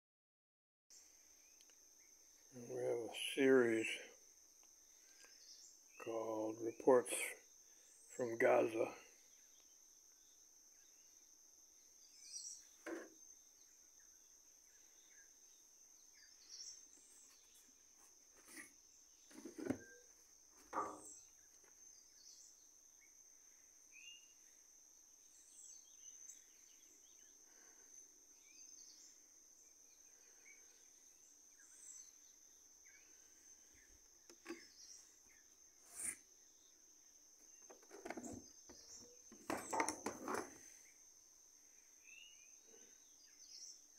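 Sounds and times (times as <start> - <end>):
crickets trilling: 1.4 - 43.9.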